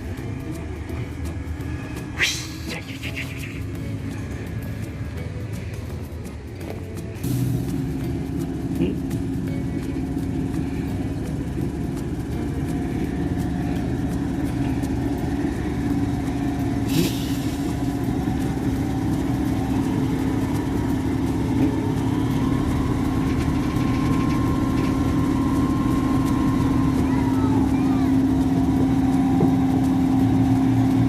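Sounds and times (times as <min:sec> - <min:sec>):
large engine idling: 0:00.0 - 0:31.0.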